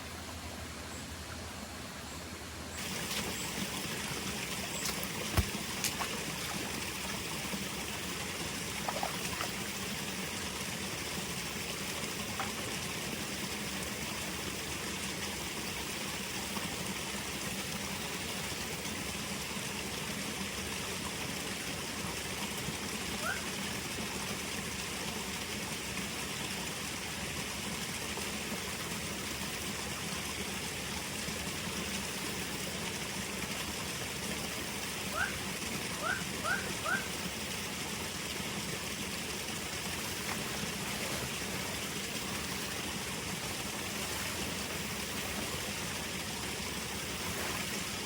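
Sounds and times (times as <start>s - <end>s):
running water: 0.0s - 48.0s.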